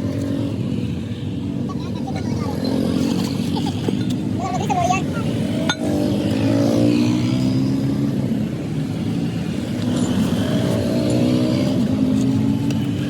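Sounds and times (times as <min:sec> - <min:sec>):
engine running: 0:01.6 - 0:13.0.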